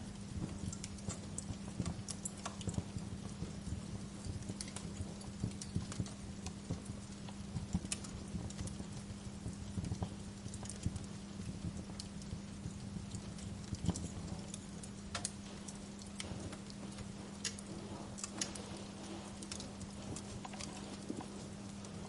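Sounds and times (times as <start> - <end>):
steady low hum: 0.0 - 22.0
wood fire crackling: 0.0 - 22.0.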